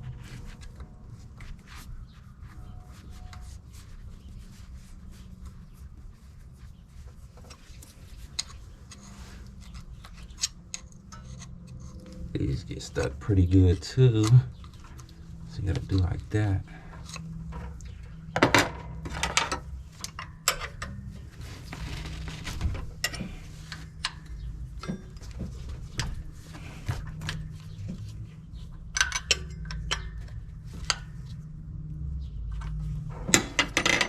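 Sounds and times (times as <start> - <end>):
steady low hum: 0.0 - 33.8.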